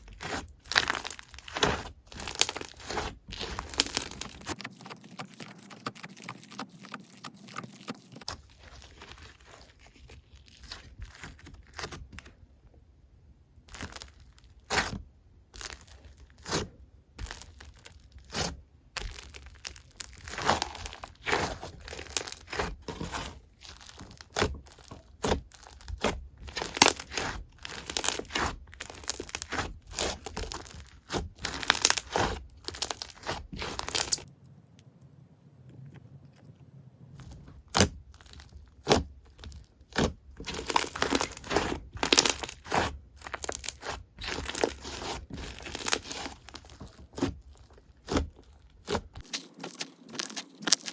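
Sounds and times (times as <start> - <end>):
slime squished by hand: 0.0 - 12.2, 15.6 - 34.8, 37.1 - 50.9.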